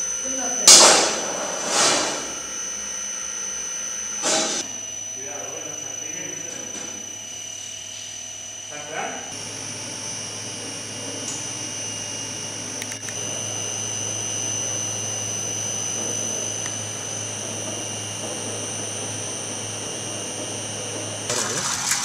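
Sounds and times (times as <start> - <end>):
machine humming and whining: 0.0 - 22.0.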